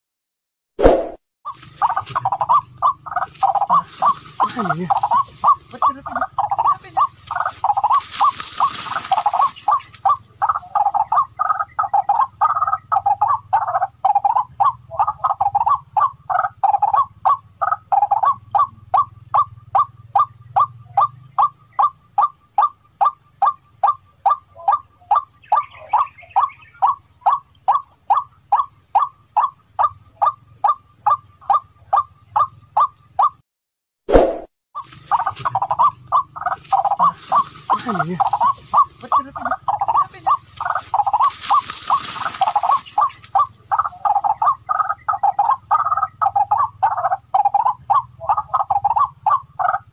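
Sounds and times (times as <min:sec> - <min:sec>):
waterhen call: 0:01.5 - 0:33.4, 0:34.2 - 0:49.9.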